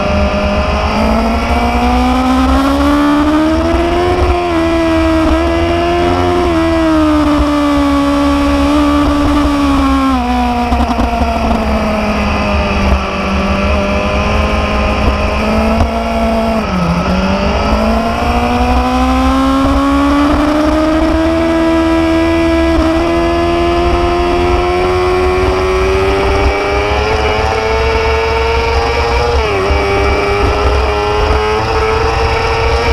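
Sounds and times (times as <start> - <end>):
low wind rumble: 0.0 - 32.9
motorcycle engine running: 0.0 - 32.9.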